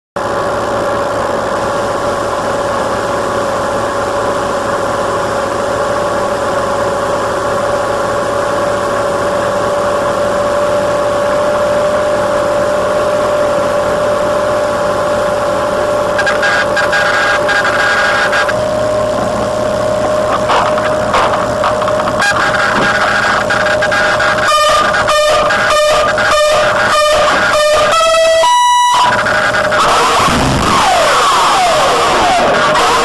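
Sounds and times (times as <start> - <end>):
steady machine whine: 0.2 - 33.0.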